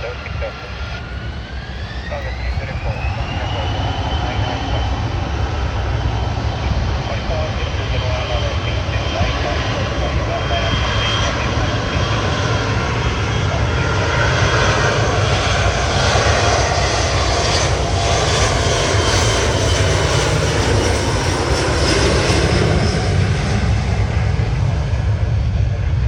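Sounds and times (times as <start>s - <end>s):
jet airliner taking off: 0.0s - 26.0s.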